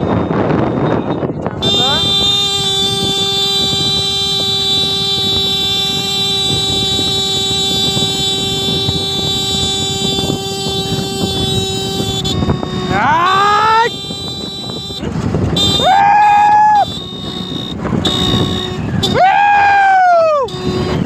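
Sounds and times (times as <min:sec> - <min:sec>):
horn long blast: 0:00.0 - 0:21.0.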